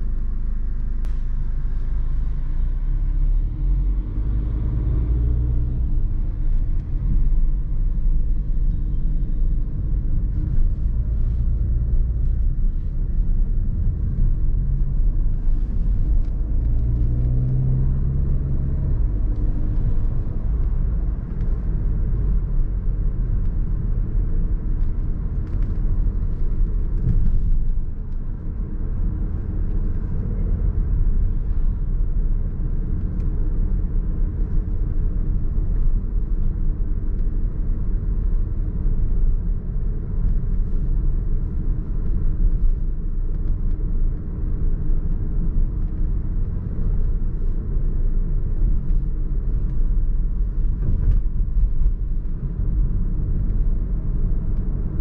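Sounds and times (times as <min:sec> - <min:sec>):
car driving in traffic: 0:00.0 - 0:55.0.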